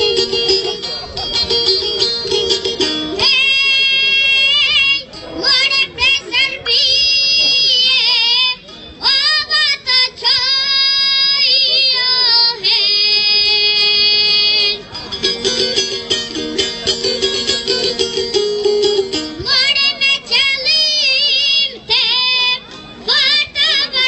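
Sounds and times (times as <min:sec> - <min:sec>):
boy singing with vibrato: 0:00.0 - 0:18.4, 0:19.0 - 0:24.0
plucked instrumental backing music: 0:00.0 - 0:24.0.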